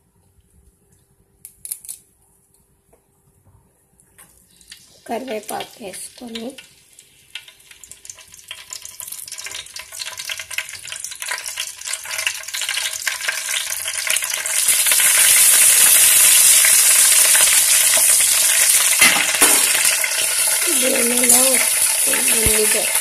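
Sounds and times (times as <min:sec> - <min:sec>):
leaves frying in hot oil: 0:04.4 - 0:23.0.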